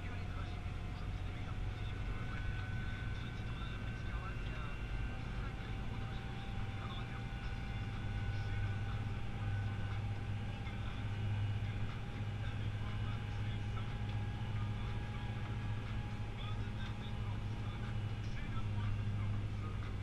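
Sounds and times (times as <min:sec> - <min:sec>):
faint whine: 0:00.0 - 0:20.0
tractor engine droning: 0:00.0 - 0:20.0.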